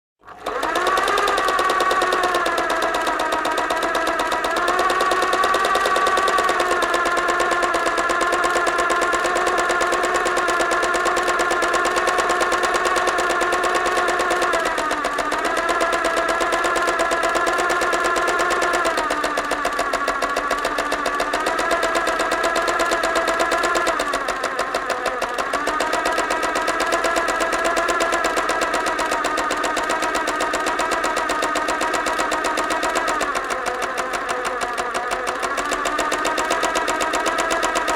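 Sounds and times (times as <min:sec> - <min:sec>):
sewing machine stitching: 0:00.2 - 0:37.9.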